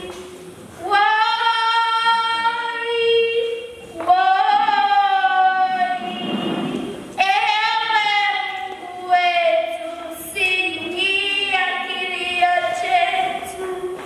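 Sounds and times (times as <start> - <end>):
girl singing: 0.8 - 6.4, 7.2 - 14.0.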